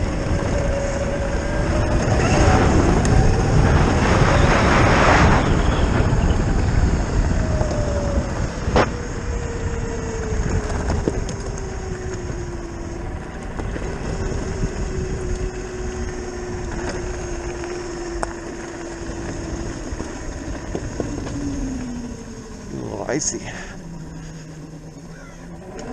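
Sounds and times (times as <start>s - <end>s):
electric motorcycle motor whine: 0.0s - 25.9s
rumbling wind: 0.0s - 25.9s
tyre noise on dirt road: 0.0s - 25.9s.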